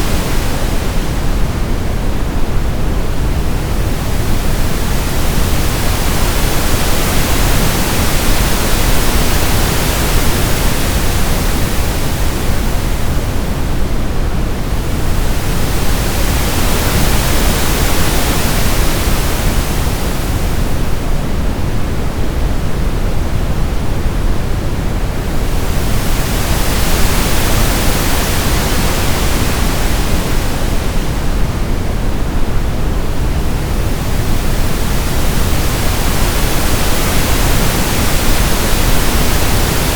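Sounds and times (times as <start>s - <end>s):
brown noise low hiss: 0.0s - 39.9s
pink noise hiss: 0.0s - 39.9s.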